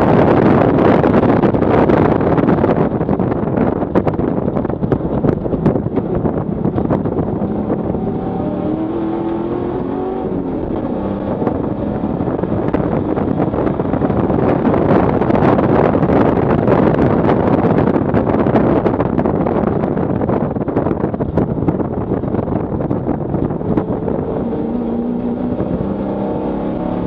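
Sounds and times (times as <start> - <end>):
car engine revving: 0.0 - 27.0
wind and road noise: 0.0 - 27.0.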